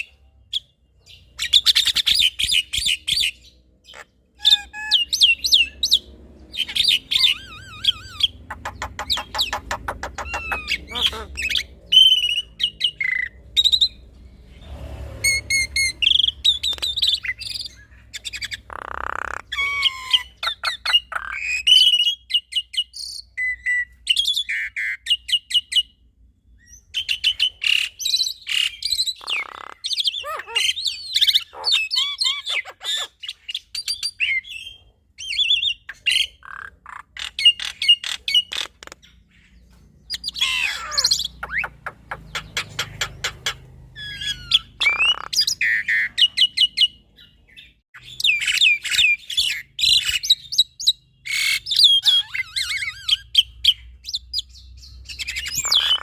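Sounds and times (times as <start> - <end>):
birds singing in duet: 0.0 - 56.0.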